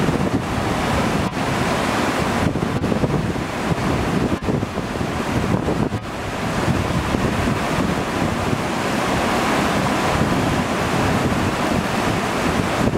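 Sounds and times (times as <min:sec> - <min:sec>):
rushing water of waterfall: 0:00.0 - 0:12.9
wind buffeting microphone: 0:00.0 - 0:12.9.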